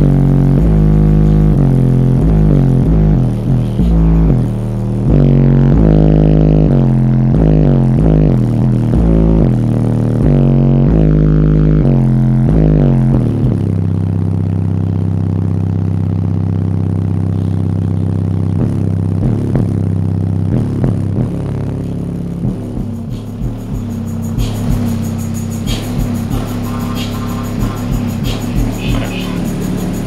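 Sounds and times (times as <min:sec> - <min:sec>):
loud bass music through subwoofers: 0:00.0 - 0:30.0.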